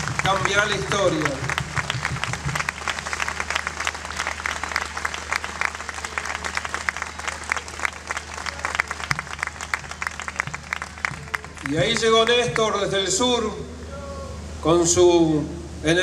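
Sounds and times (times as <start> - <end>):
audience applauding: 0.0 - 12.8
low steady hum: 0.0 - 16.0.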